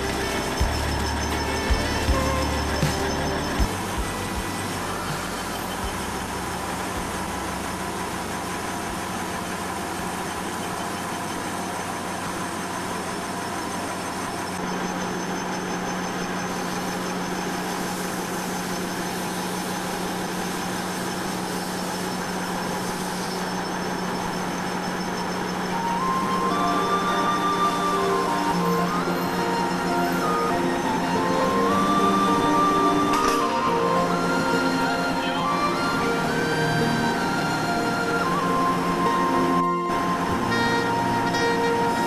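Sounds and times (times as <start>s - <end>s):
machine drone with low hum: 0.0s - 42.0s.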